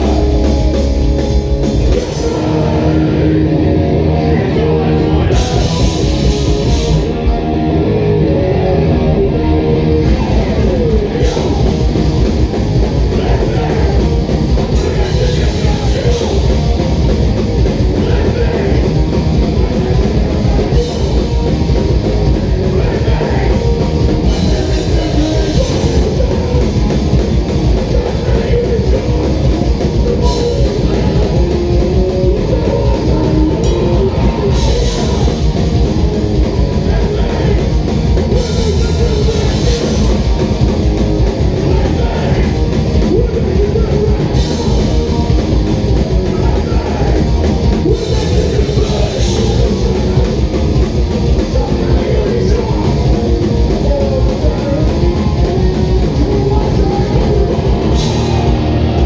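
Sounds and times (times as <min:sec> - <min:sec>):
person singing: 0:00.0 - 0:07.1, 0:10.0 - 0:59.0
bass guitar: 0:00.0 - 0:59.0
distorted electric guitars: 0:00.0 - 0:59.0.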